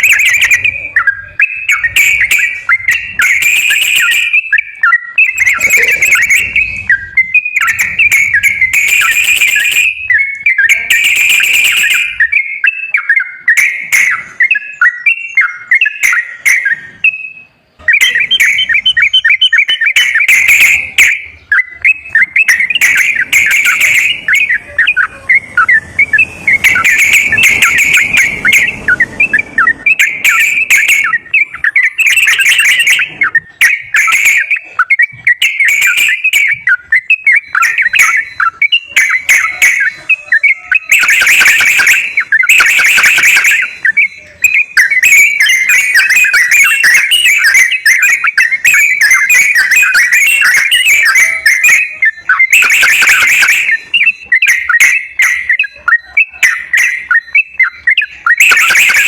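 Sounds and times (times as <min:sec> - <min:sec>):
bird singing chattering warbles: 0:00.0 - 0:59.0.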